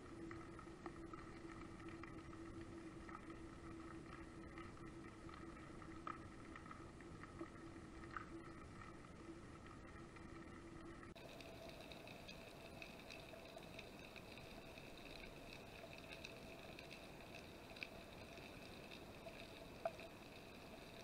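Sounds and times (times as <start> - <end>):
faint underwater hum: 0.0 - 21.0
small clicks and crackles: 0.0 - 21.0.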